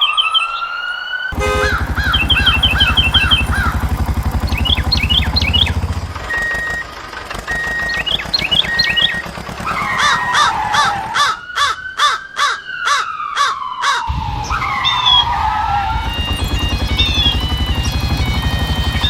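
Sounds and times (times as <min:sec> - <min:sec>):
harsh cawing calls: 0:00.0 - 0:06.0, 0:09.0 - 0:19.0
pulsing engine rumble: 0:01.3 - 0:11.8, 0:14.1 - 0:19.0.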